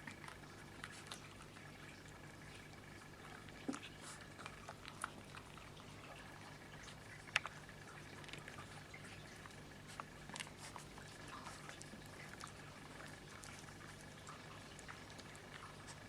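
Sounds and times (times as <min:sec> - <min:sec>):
faint steady hum: 0:00.0 - 0:16.0
puppies lapping milk: 0:00.0 - 0:16.0.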